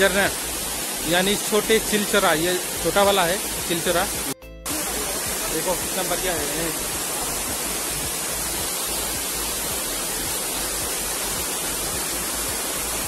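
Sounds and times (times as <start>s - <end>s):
small waterfall pouring onto rock: 0.0s - 13.0s.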